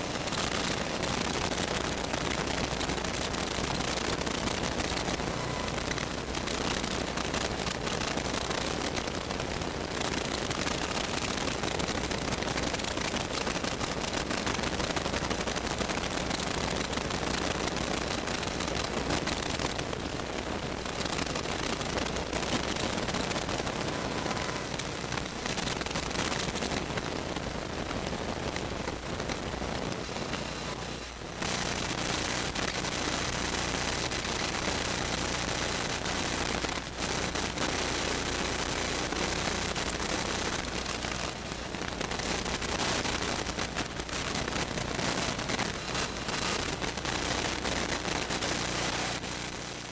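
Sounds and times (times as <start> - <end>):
crackling radio static: 0.0 - 49.9.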